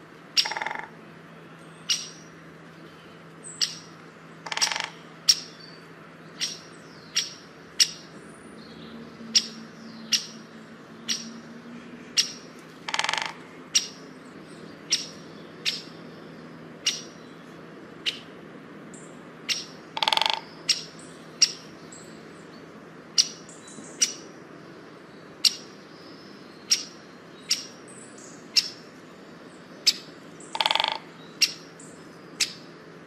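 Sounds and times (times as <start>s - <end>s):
harsh bird calls: 0.0s - 18.4s, 19.0s - 32.9s.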